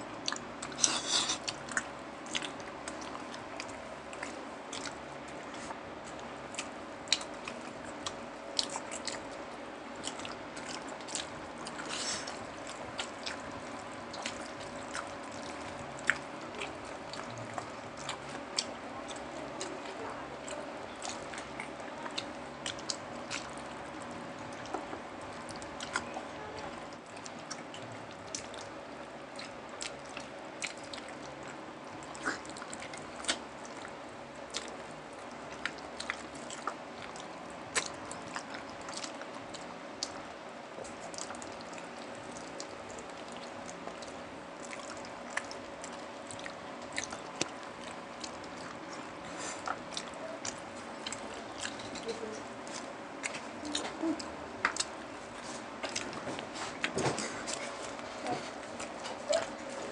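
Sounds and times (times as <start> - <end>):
people chewing: 0.0 - 59.9.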